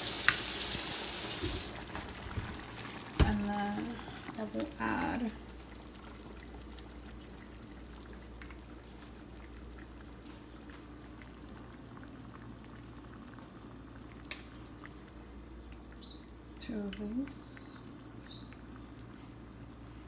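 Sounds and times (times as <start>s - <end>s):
pot simmering with bubbling: 0.0s - 20.0s.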